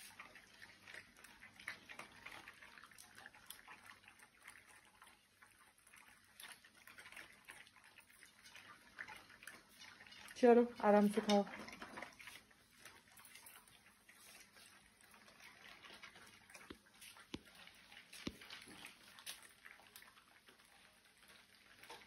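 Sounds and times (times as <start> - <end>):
dogs crunching dry kibble: 0.0 - 22.0
food clicking against bowls: 0.0 - 22.0.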